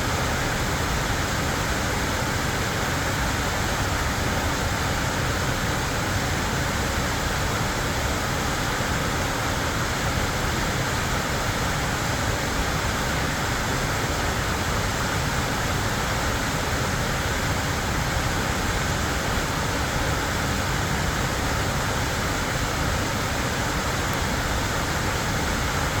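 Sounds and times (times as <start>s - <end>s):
waterfall pouring and splashing: 0.0s - 26.0s.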